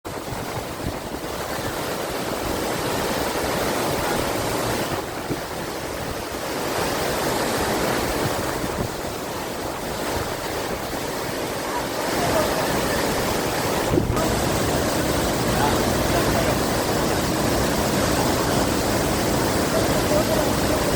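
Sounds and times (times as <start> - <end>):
waterfall roaring: 0.1 - 20.9.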